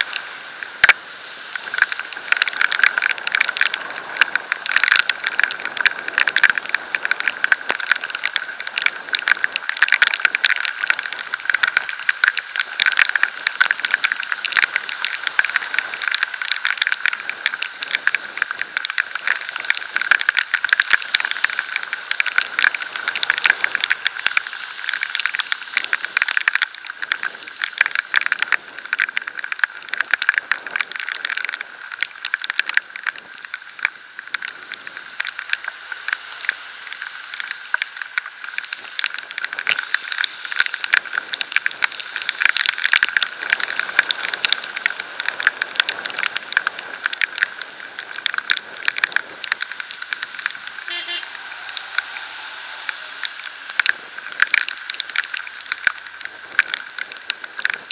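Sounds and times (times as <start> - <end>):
raindrops striking camera: 0.0 - 57.9
wind hiss: 0.0 - 57.9.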